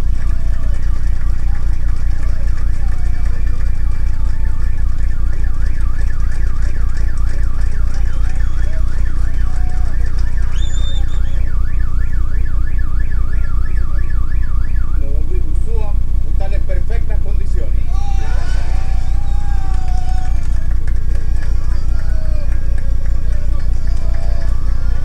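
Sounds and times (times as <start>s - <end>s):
electronic siren wailing: 0.0s - 16.1s, 17.8s - 25.0s
low pulsing hum: 0.0s - 25.0s.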